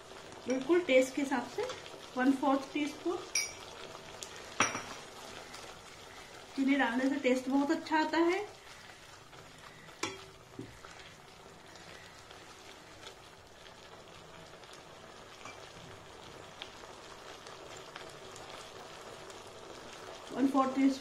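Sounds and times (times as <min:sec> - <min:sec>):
sauce sizzling and bubbling: 0:00.0 - 0:21.0.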